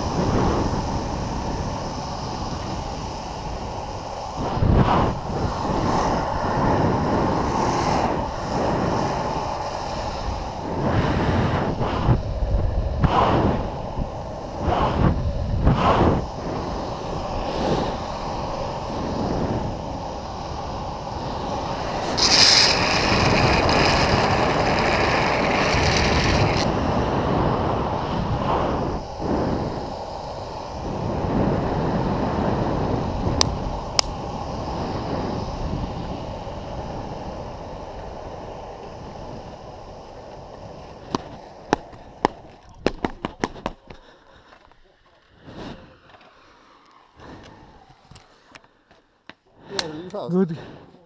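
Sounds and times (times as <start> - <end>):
wind on microphone: 0.0 - 48.6
longboard wheels rumbling: 0.0 - 49.6.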